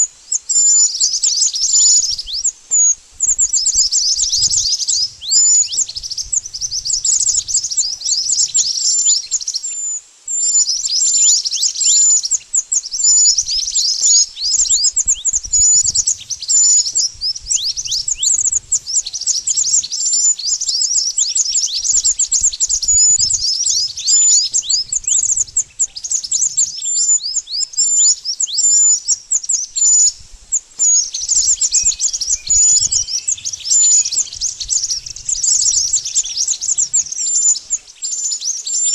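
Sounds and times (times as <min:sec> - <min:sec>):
birds chirping rapidly: 0:00.0 - 0:38.9
high piping bird notes: 0:00.0 - 0:38.9.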